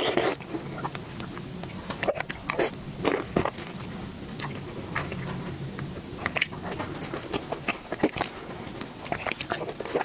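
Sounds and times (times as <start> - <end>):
chewing dessert: 0.0 - 10.0.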